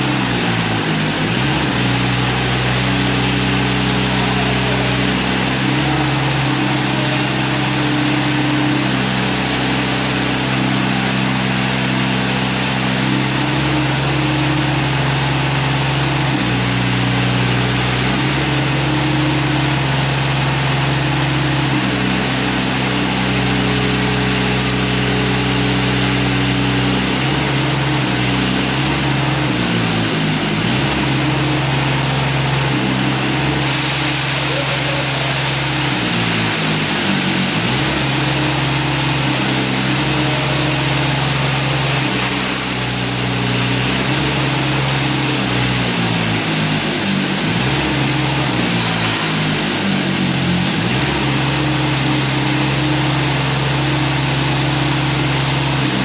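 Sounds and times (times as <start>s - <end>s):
demolition machine engine running: 0.0s - 56.0s.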